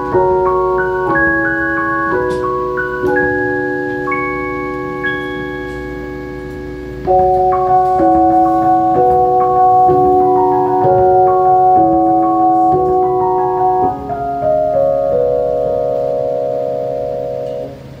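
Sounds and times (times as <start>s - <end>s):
electric keyboard chords: 0.0s - 18.0s.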